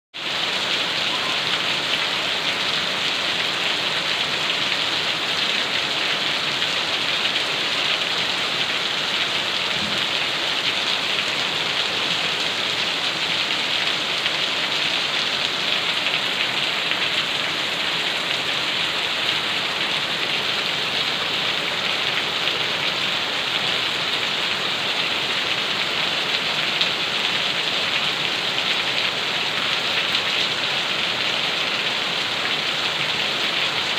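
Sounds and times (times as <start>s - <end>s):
rain pattering on surfaces: 0.2s - 33.9s.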